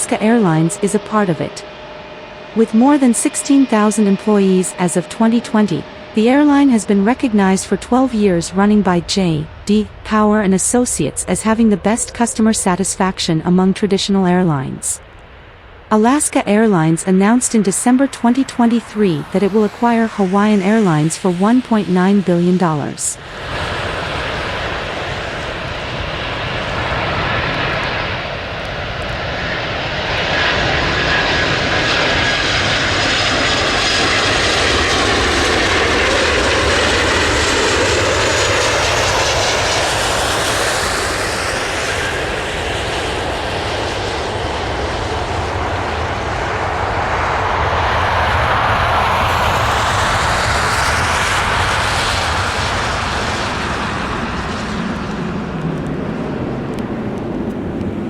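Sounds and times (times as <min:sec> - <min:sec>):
jet airliner flying past: 0:00.0 - 0:58.0.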